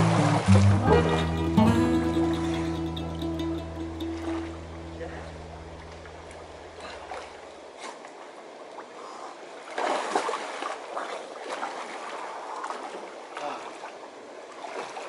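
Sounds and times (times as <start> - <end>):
swimming splashes: 0.0 - 2.9, 4.1 - 15.0.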